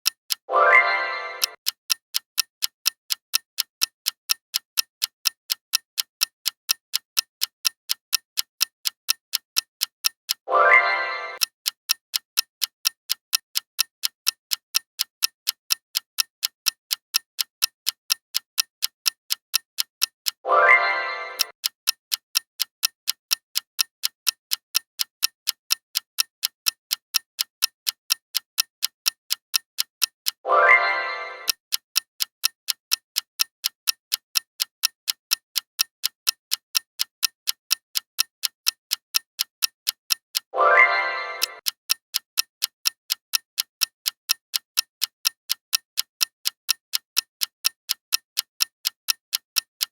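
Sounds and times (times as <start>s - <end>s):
clock ticking fast: 0.0s - 49.9s.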